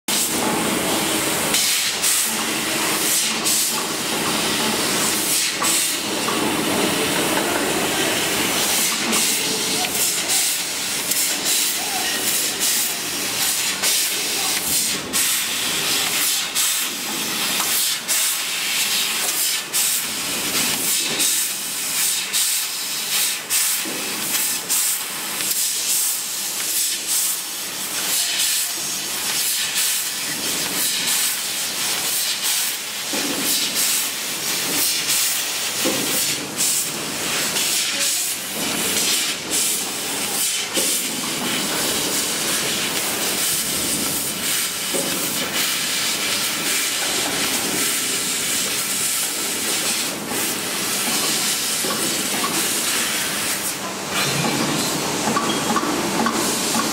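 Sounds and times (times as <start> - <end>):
hiss of laser cutter assist gas: 0.1 - 56.9.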